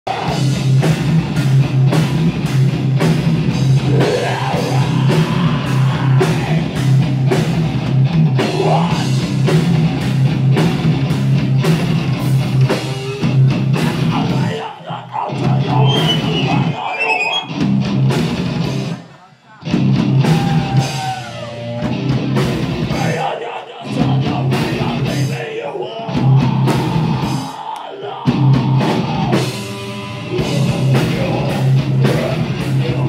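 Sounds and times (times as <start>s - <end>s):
distorted electric guitars: 0.0s - 33.0s
pounding drum kit: 0.1s - 14.6s, 17.5s - 19.0s, 19.7s - 23.3s, 23.9s - 25.4s, 26.1s - 27.6s, 28.2s - 33.0s.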